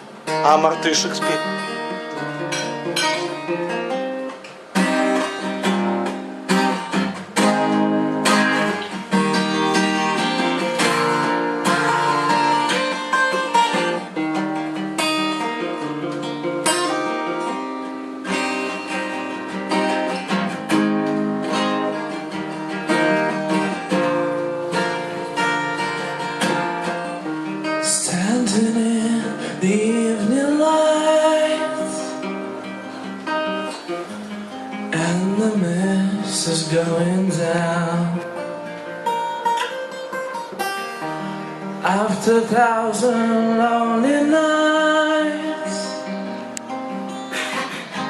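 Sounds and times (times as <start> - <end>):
acoustic guitar strumming chords: 0.0 - 48.0.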